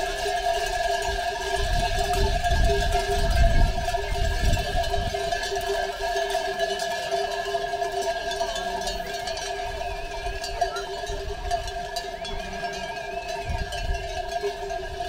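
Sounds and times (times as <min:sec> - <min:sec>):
sheep bells jangling: 0:00.0 - 0:15.0.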